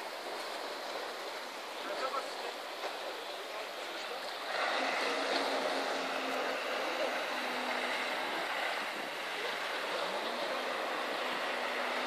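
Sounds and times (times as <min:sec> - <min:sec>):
jet ski engine droning: 0:00.0 - 0:12.0
rushing sea and wind: 0:00.0 - 0:12.0.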